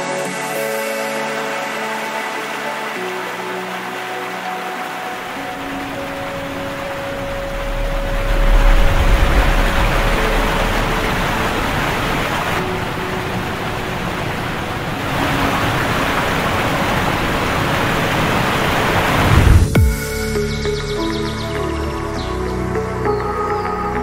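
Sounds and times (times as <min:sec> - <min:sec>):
whitewater rushing over dam: 0:00.0 - 0:19.7.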